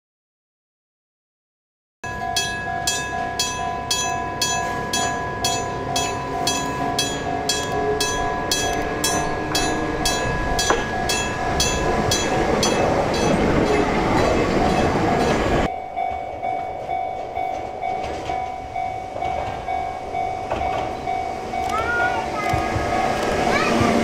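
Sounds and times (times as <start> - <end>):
level crossing bell clanging: 2.0 - 24.0
electric train running: 2.1 - 24.0.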